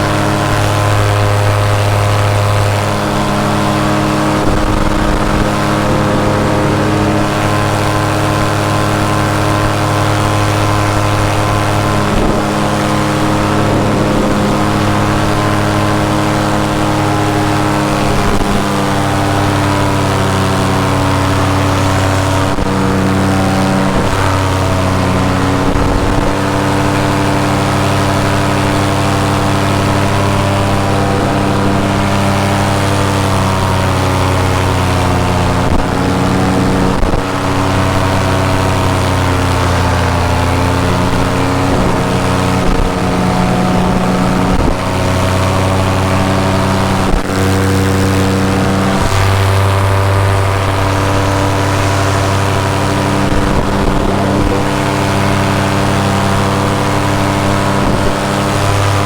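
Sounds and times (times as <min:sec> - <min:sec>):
paramotor engine and propeller: 0:00.0 - 0:59.0
wind noise: 0:00.0 - 0:59.0.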